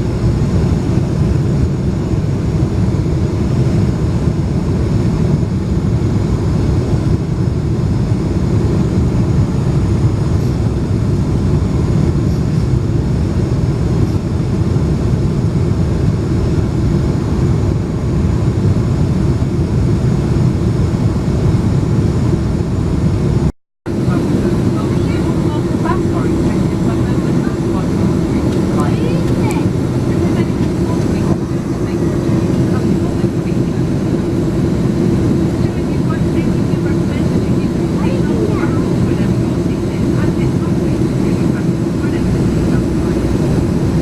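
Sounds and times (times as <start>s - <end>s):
airplane cabin engine rumble: 0.0s - 44.0s.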